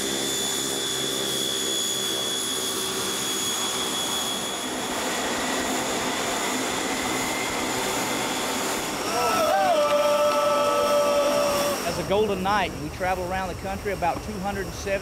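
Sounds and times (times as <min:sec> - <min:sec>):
lower engine whine: 0:00.0 - 0:15.0
turboprop engines whine: 0:00.0 - 0:15.0.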